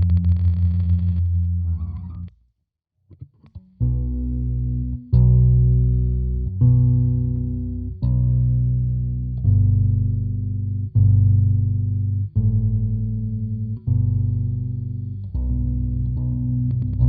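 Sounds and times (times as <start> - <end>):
electric bass through delay pedal: 0.0 - 2.3, 3.6 - 17.0.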